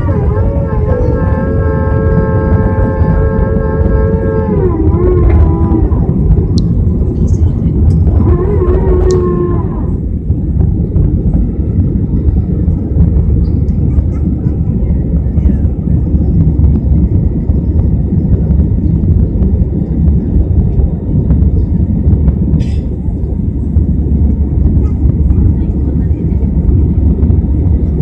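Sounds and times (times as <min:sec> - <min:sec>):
jet engines rumbling in cabin: 0:00.0 - 0:28.0
rushing air: 0:00.0 - 0:28.0.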